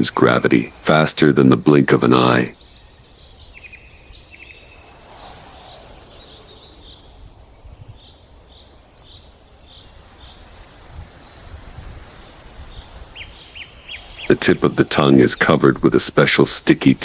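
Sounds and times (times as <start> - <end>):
birds chirping and calling: 0.0 - 17.0
high hiss of insects: 0.0 - 17.0.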